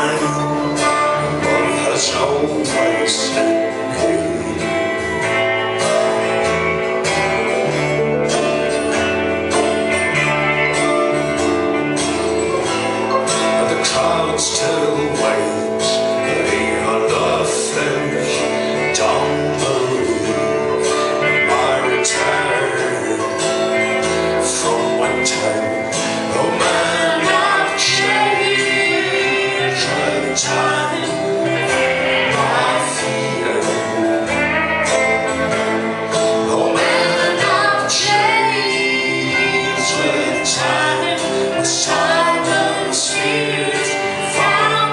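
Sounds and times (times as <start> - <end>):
live band music: 0.0 - 44.9
voices singing together: 0.0 - 44.9.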